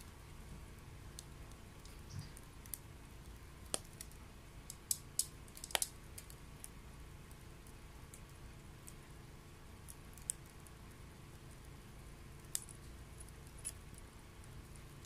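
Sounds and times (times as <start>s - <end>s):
wet wood crackling and popping: 0.0s - 9.1s, 9.8s - 15.0s
stove low rumble: 0.0s - 15.0s.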